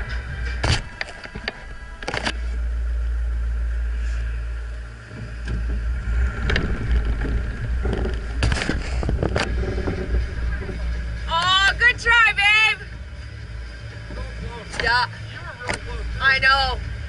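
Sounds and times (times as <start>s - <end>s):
off-road vehicle engine idling: 0.0s - 17.0s
wind rumble: 0.0s - 17.0s.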